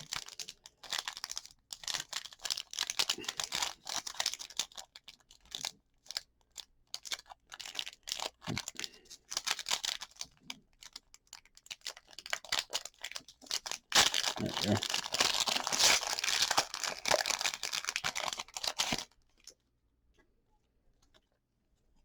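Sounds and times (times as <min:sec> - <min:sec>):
card pack wrapper crinkling: 0:00.0 - 0:19.3.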